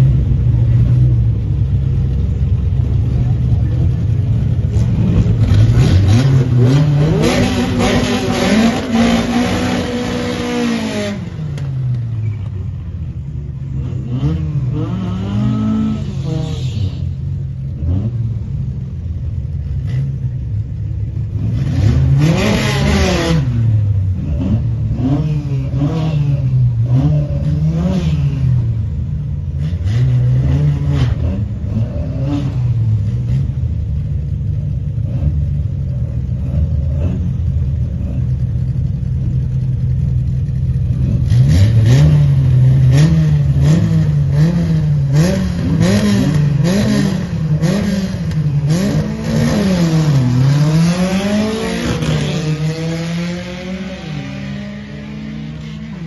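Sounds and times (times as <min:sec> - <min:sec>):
truck engines idling and revving: 0:00.0 - 0:56.0.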